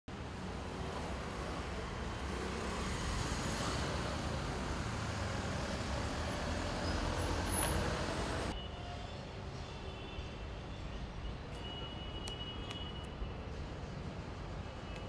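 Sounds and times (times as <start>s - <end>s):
road traffic rumble and hiss: 0.1s - 15.0s.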